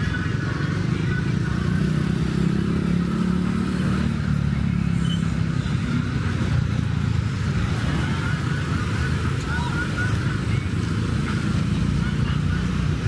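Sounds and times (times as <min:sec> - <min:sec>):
street traffic passing: 0:00.0 - 0:13.0
vehicle engine humming: 0:00.0 - 0:13.0.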